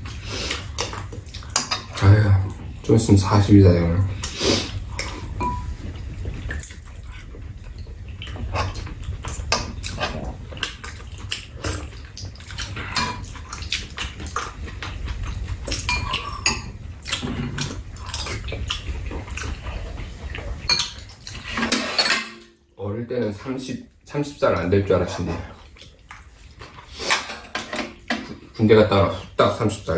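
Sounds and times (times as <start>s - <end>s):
soft eating sounds: 0.0s - 21.9s, 22.6s - 29.9s.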